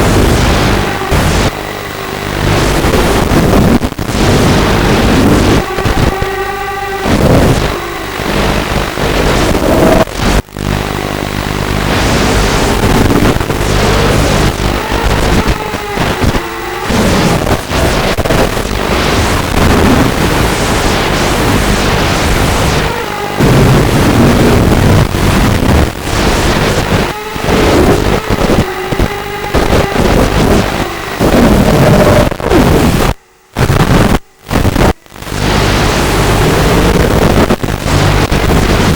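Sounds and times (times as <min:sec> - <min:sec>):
drone motors whining: 0:00.0 - 0:38.9
wind noise: 0:00.0 - 0:38.9.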